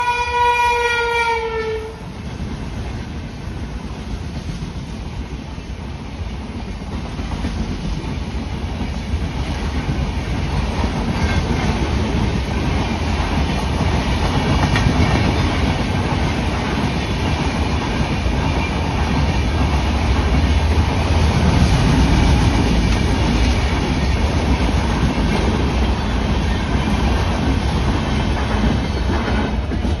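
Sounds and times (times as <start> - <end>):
train wheels rumbling and rattling: 0.0 - 30.0.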